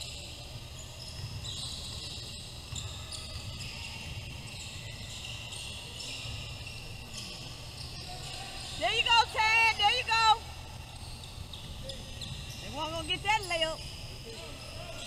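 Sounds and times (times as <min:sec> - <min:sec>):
sneakers squeaking: 0:00.0 - 0:15.0.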